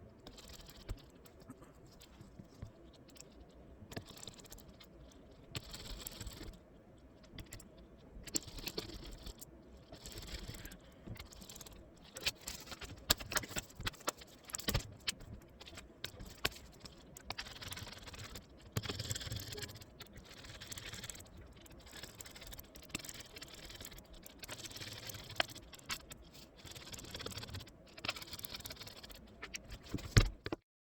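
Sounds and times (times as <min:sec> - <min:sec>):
small parts clicking and rattling: 0:00.2 - 0:30.6.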